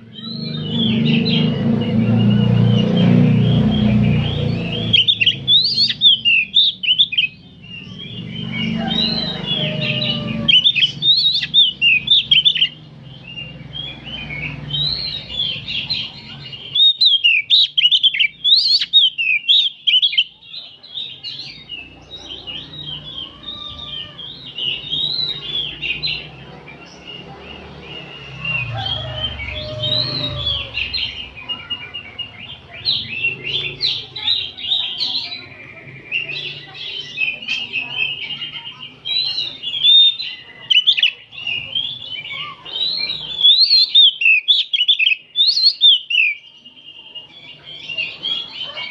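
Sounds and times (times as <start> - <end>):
birds singing in chorus: 0.0 - 48.9.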